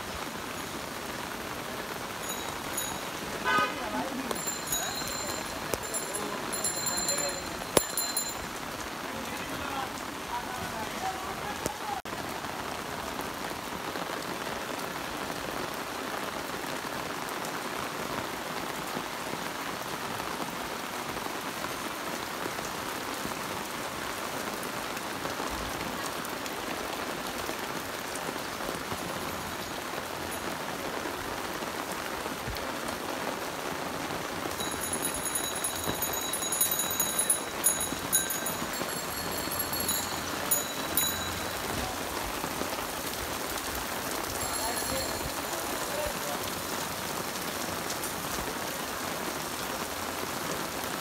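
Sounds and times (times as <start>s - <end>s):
heavy rain on pavement: 0.0s - 51.0s.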